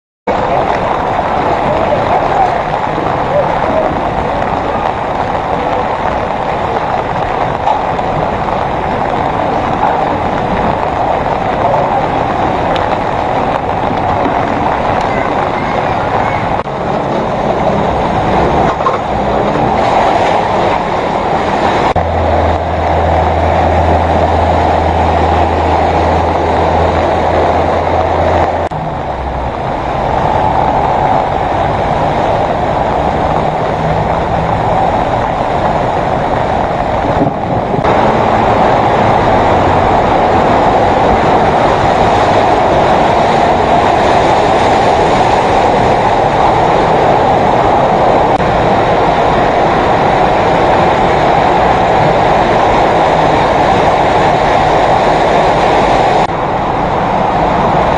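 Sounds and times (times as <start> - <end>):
low engine hum: 0.3 - 57.9
traffic noise: 0.3 - 57.9
vehicles splashing through floodwater: 0.3 - 57.9.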